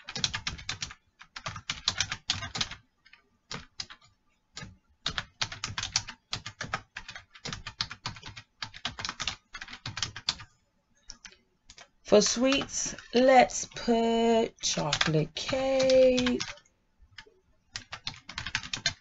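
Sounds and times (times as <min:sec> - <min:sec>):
keyboard typing: 0:00.0 - 0:10.5, 0:11.1 - 0:19.0.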